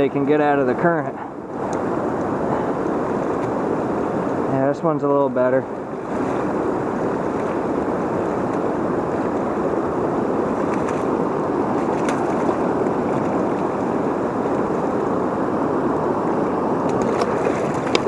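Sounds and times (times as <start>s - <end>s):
water roaring through a dam: 0.0s - 18.0s.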